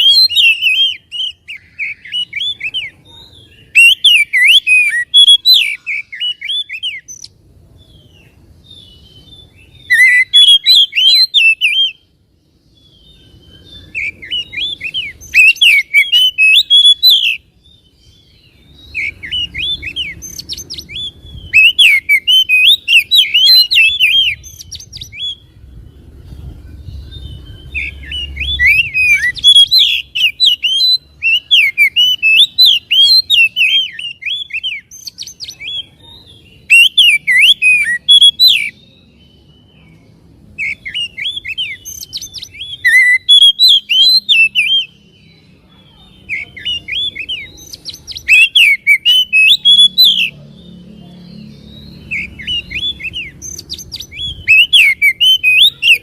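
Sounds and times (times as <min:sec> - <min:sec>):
bird singing varied chirps: 0:00.0 - 0:56.0.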